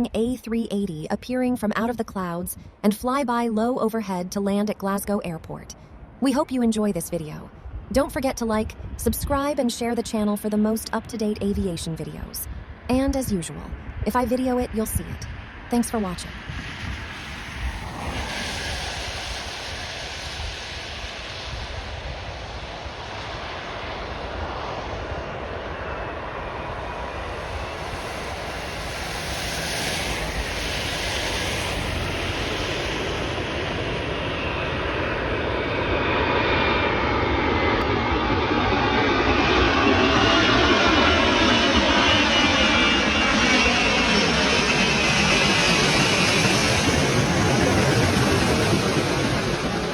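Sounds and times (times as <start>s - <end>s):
jet airliner engines roaring: 0.0s - 49.9s.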